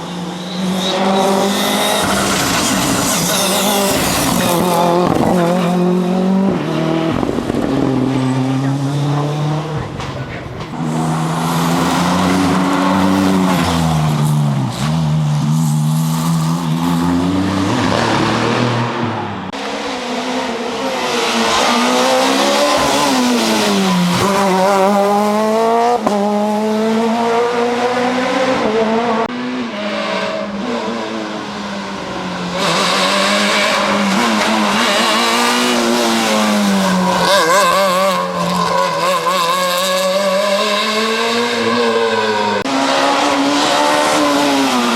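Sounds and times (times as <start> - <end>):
rally car engine revving hard: 0.6 - 44.9.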